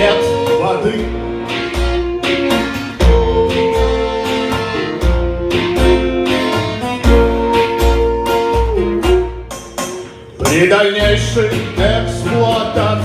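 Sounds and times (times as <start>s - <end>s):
instrumental guitar music: 0.0s - 13.0s.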